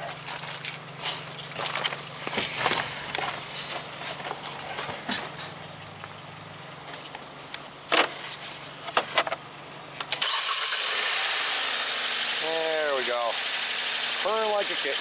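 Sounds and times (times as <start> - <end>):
car engine starting and idling: 0.0 - 15.0.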